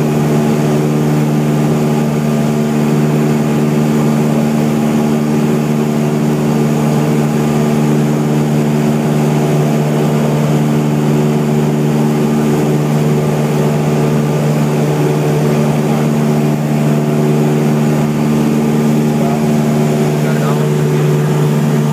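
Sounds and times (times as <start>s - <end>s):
propeller aircraft engine in cabin: 0.0s - 21.9s.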